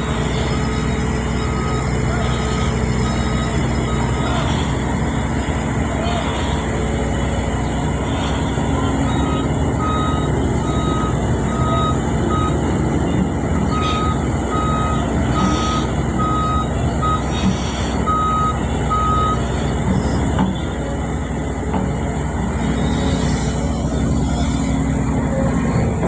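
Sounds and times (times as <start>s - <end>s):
reversing alarm beeping: 0.0s - 21.6s, 22.4s - 26.0s
backhoe engine running: 0.0s - 26.0s.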